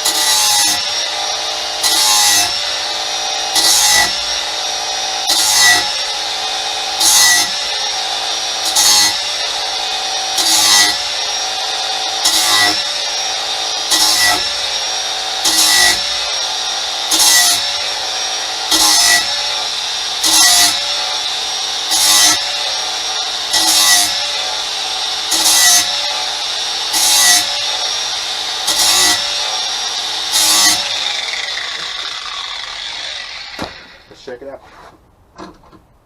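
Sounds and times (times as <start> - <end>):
power grinder motor whine: 0.0 - 34.1
blade grinding on grinder: 0.0 - 34.2.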